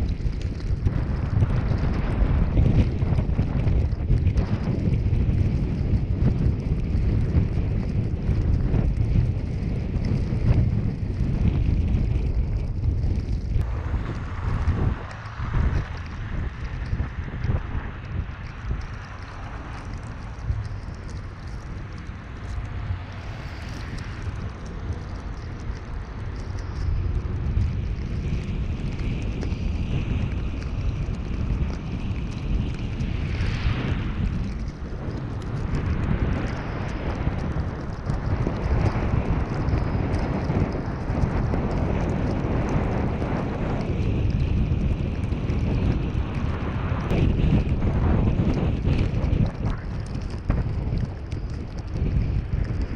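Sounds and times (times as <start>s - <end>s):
car driving rumble: 0.0s - 52.9s
wind buffeting microphone: 0.0s - 52.9s.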